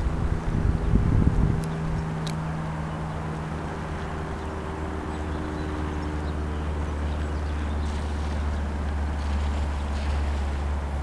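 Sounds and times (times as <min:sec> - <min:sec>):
light aircraft engine drone: 0:00.0 - 0:11.0.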